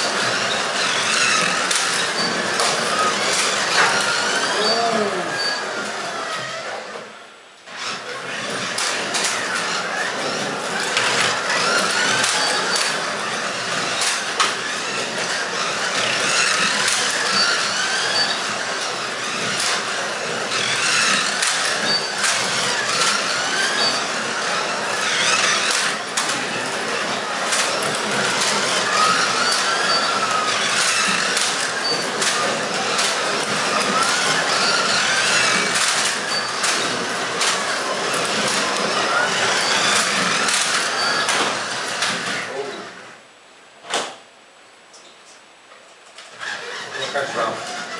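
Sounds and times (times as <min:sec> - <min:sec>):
slot car motors whining: 0:00.0 - 0:43.2, 0:46.2 - 0:47.9.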